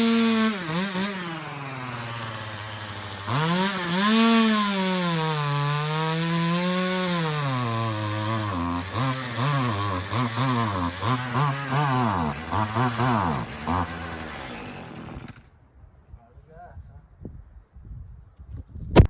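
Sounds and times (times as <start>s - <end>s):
chainsaw revving and cutting wood: 0.0s - 15.6s.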